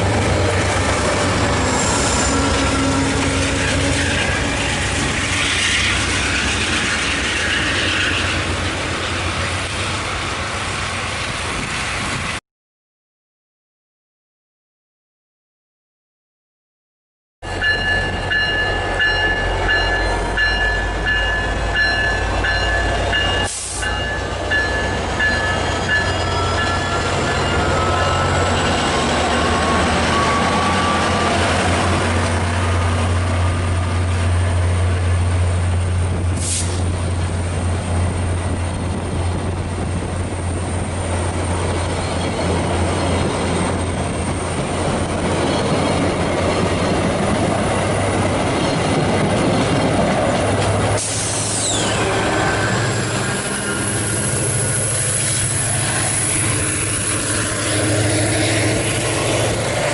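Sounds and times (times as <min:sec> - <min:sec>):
train passing rumble: 0:00.0 - 0:12.4, 0:17.4 - 0:59.9.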